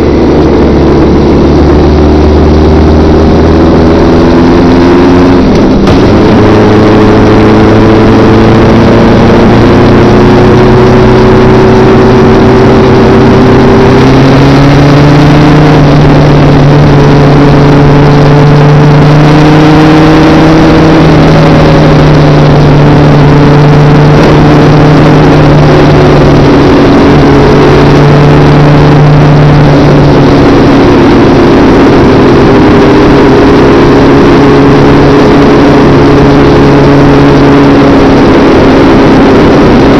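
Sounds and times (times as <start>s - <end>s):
motorcycle engine: 0.0s - 39.9s
wind rush on camera: 0.0s - 39.9s.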